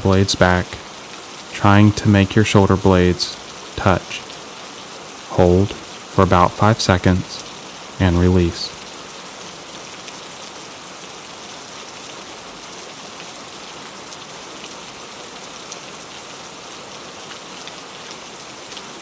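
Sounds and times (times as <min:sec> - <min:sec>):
gentle rain falling: 0:00.0 - 0:19.0.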